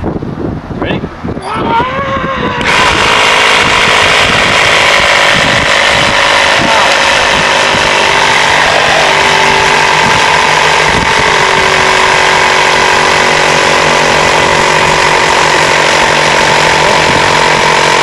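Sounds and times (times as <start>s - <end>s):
electric air compressor running: 2.5s - 18.0s.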